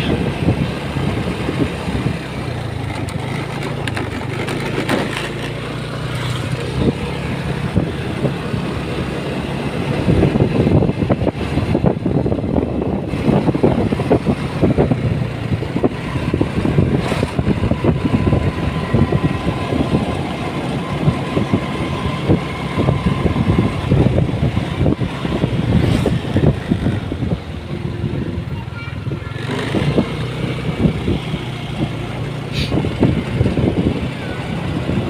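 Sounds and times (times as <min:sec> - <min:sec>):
motorcycle engine running: 0:00.1 - 0:35.0.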